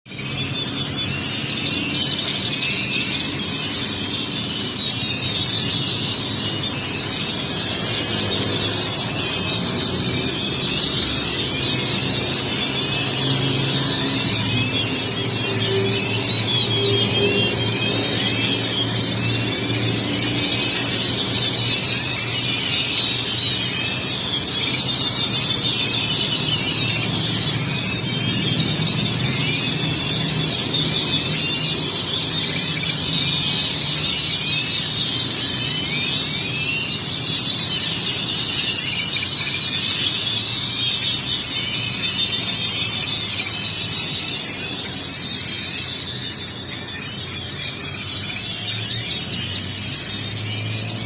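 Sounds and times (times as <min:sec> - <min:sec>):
birds chirping and whistling: 0:00.1 - 0:51.0
low rumble of city traffic: 0:00.1 - 0:51.0.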